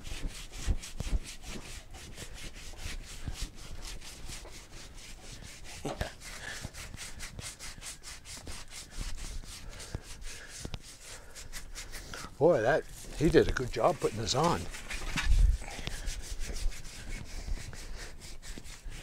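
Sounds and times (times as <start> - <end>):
sandpaper rubbing by hand: 0.0 - 19.0.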